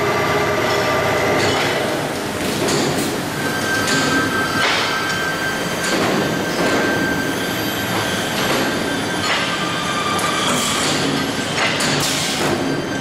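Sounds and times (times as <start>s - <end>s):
machinery noise: 0.0s - 13.0s.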